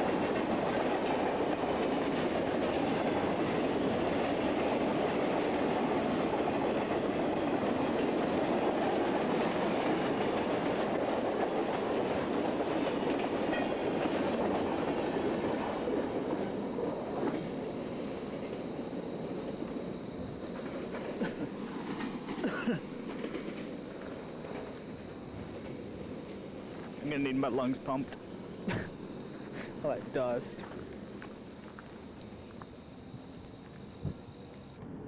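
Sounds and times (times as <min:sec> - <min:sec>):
freight train rolling past: 0:00.0 - 0:35.0.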